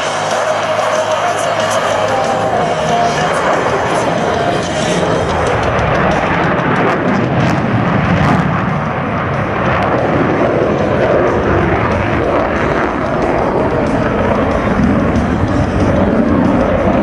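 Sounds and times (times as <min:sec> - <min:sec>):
jet engines roaring in flight: 0:00.0 - 0:17.0.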